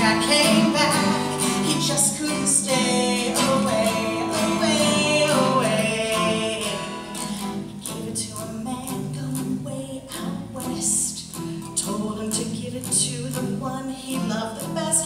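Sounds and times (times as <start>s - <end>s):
strummed acoustic guitar: 0.0s - 15.0s
woman singing: 0.0s - 15.0s.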